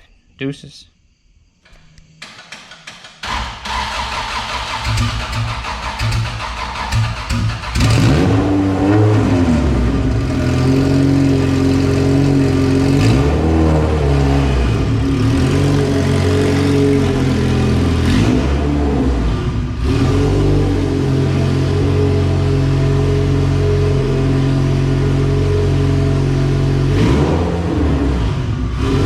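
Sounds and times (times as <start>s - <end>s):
loud engine idling with revs: 4.8s - 29.0s.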